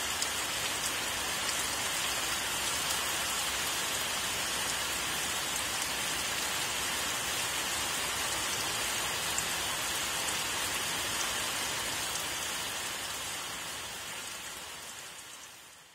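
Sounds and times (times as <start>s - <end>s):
steady rain hiss: 0.0s - 15.9s.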